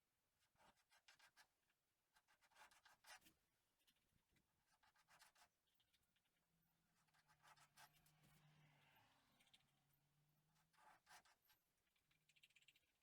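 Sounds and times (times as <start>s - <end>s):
faint scratching strokes: 0.4s - 13.0s.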